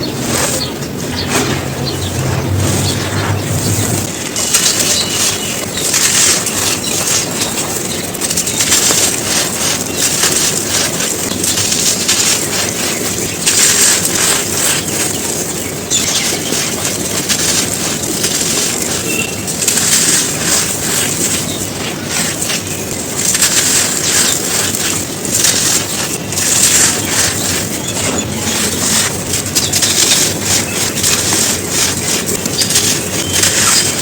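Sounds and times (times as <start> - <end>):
cones crunching: 0.0 - 34.0.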